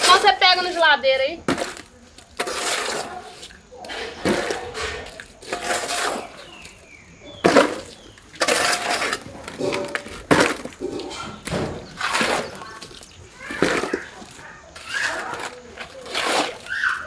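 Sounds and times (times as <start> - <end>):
hoe scraping through wet mud: 0.0 - 17.0.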